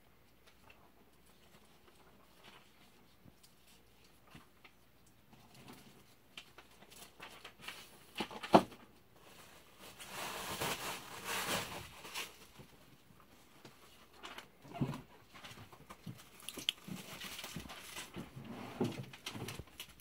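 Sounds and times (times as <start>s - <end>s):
rustling: 0.1s - 20.0s.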